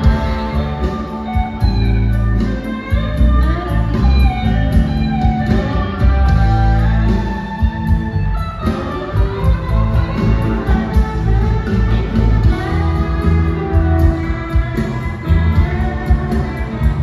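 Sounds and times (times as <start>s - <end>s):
electric guitar with bending notes: 0.0s - 17.0s
heavy bass: 0.0s - 17.0s
keyboard: 0.0s - 17.0s.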